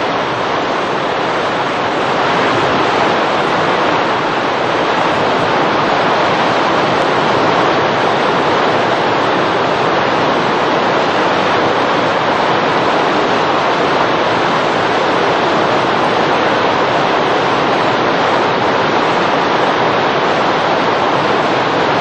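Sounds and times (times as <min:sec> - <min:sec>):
flood water rushing over rocks: 0:00.0 - 0:22.0.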